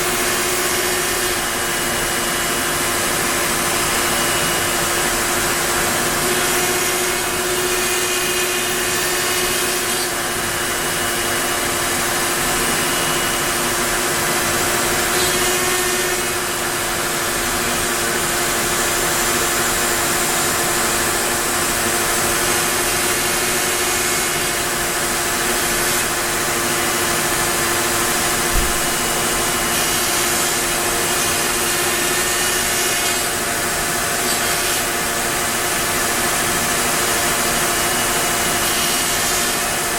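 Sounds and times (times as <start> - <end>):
router spindle cutting wood: 0.0 - 39.9.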